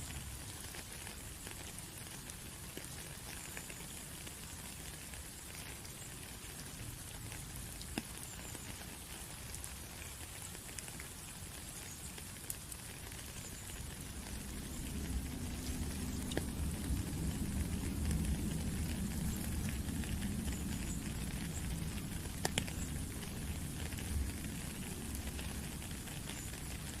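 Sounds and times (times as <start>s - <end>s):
running water gurgling: 0.0s - 27.0s
steady rain: 0.0s - 27.0s
sharp drips: 0.1s - 27.0s.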